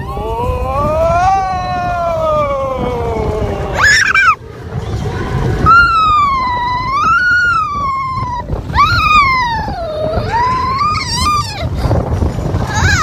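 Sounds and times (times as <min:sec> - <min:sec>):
child wailing high-pitched: 0:00.0 - 0:04.4, 0:05.6 - 0:11.9, 0:12.7 - 0:13.0
low rumble: 0:00.0 - 0:13.0.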